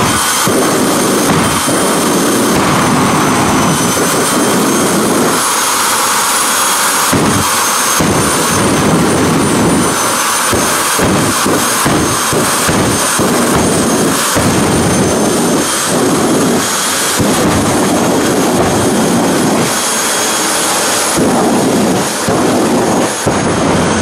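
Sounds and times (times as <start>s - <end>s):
jet engine whine and rumble: 0.0s - 24.0s.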